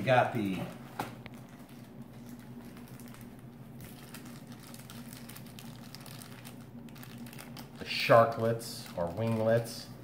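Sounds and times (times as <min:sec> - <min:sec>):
plastic bag rustling: 0:00.0 - 0:09.8
low steady hum: 0:00.0 - 0:10.0.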